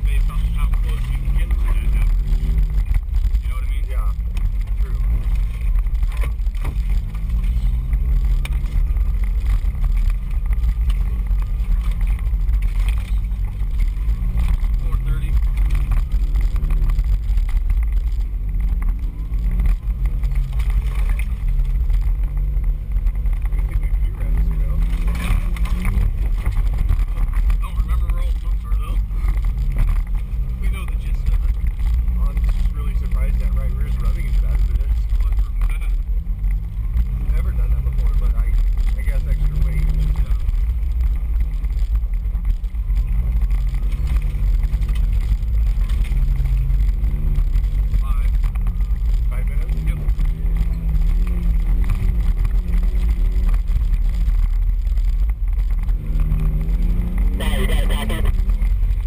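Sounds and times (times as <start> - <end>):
knocks and rattles over bumps: 0.0 - 59.0
off-road vehicle engine rumbling: 0.0 - 59.0.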